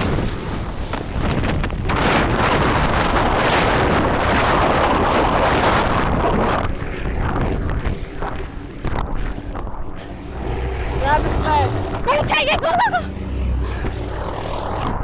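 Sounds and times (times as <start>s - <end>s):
breaking wave roaring: 0.0s - 15.0s
wind buffeting microphone: 0.0s - 15.0s.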